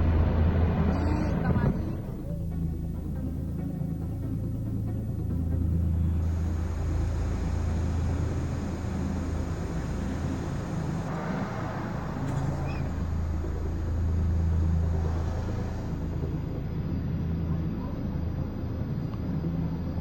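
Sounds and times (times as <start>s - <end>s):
low-flying aircraft rumble: 0.0s - 20.0s.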